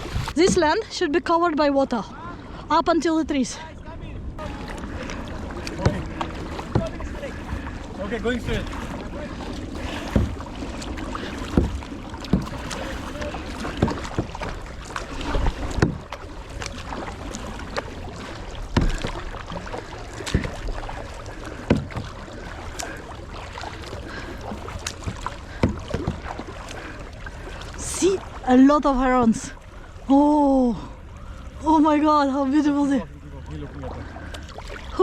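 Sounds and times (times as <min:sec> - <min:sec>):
paddle splashing water: 0:00.0 - 0:02.7, 0:03.5 - 0:35.0
wind and water hiss: 0:00.0 - 0:35.0.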